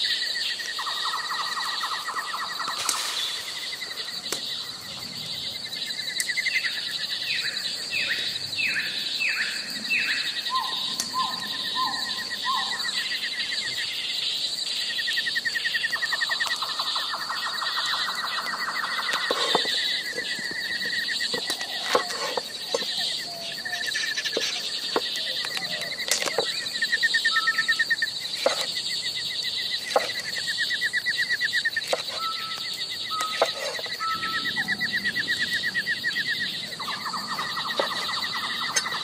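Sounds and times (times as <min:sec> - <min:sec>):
bird singing trills: 0:00.0 - 0:39.0.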